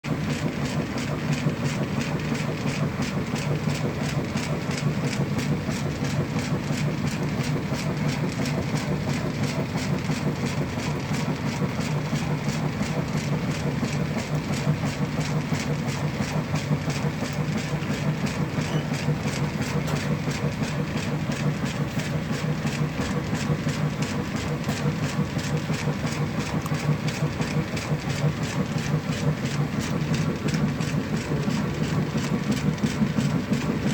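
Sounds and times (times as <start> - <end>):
washing machine running: 0.0 - 33.9.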